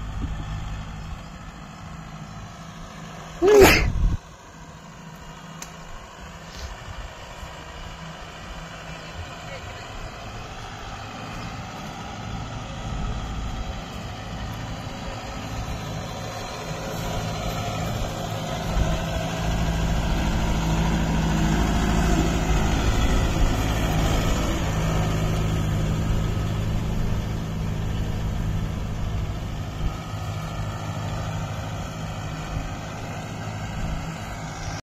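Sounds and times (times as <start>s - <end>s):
tractor diesel engine running: 0.0s - 34.8s.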